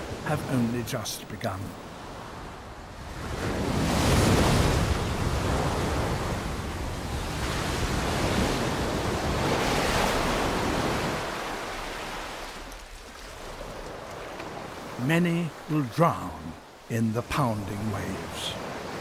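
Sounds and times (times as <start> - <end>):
ocean waves breaking on a beach: 0.0 - 19.0.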